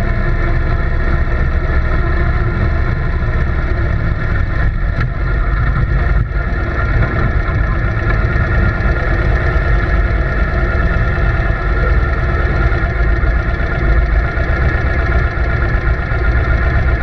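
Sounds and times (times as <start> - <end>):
mechanical drone with low rumble: 0.0 - 17.0.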